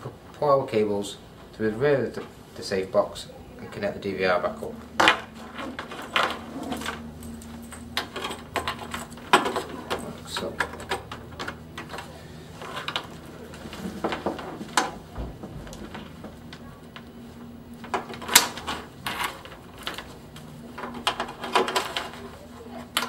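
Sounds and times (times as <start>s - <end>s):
cables and connectors rattling: 1.4s - 23.0s.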